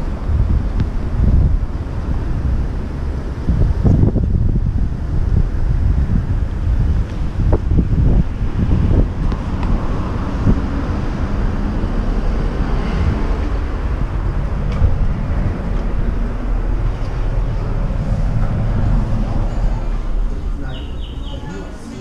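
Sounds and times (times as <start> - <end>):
street traffic: 0.0 - 22.0
wind buffeting microphone: 0.0 - 22.0.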